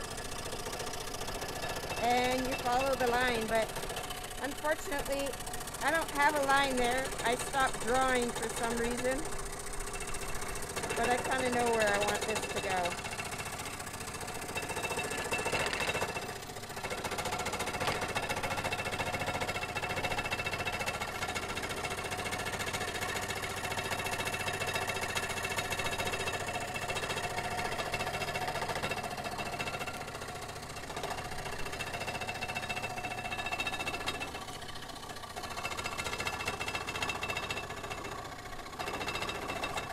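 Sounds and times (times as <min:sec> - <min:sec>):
scroll saw cutting wood: 0:00.0 - 0:38.1.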